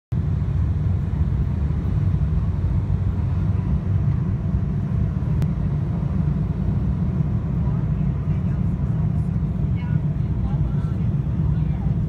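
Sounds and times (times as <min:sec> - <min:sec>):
jet cabin engine rumble: 0:00.1 - 0:12.0.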